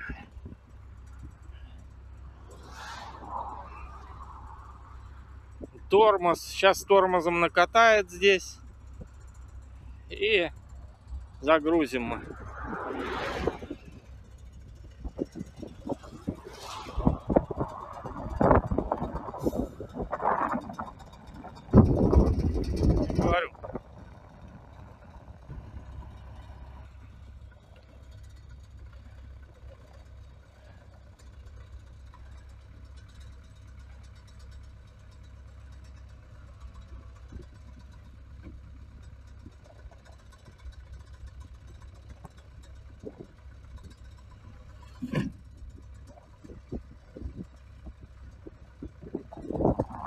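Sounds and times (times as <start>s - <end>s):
tractor diesel engine rumbling: 0.0s - 50.0s.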